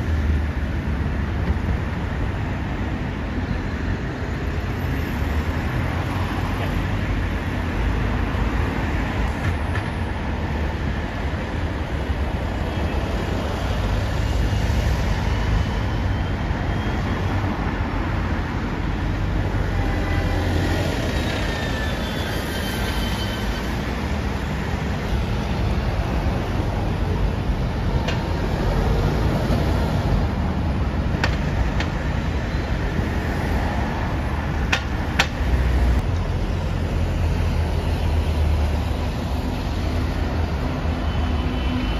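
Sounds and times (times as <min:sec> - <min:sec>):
buses driving past: 0:00.0 - 0:41.9
road traffic rumble: 0:00.0 - 0:41.9.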